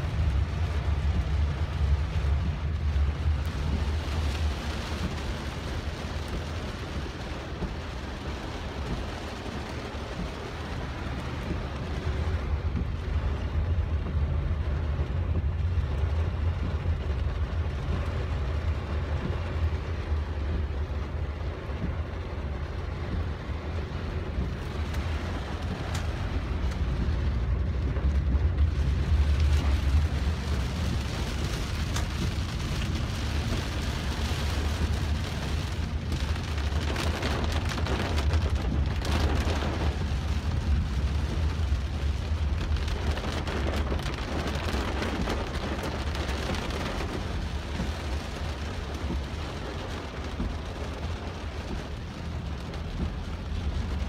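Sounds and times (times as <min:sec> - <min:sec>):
car low rumble: 0:00.0 - 0:54.0
heavy rain on car roof: 0:00.0 - 0:54.0.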